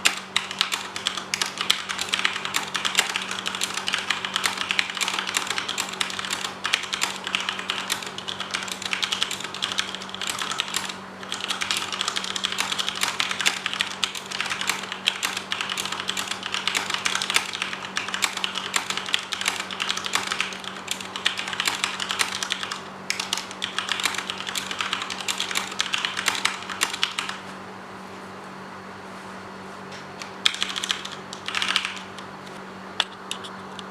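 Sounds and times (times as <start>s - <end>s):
fast typing on mechanical keyboard: 0.0s - 27.4s, 30.2s - 32.3s.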